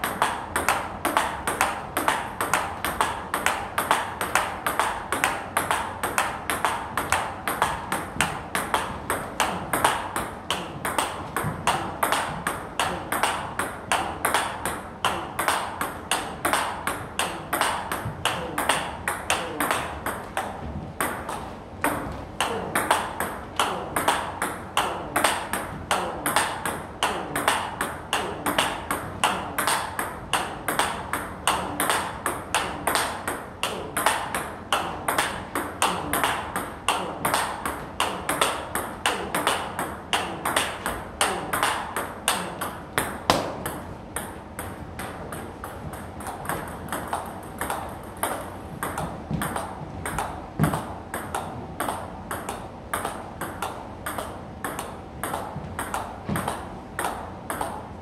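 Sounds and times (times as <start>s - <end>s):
table tennis ball hits: 0.0s - 57.8s.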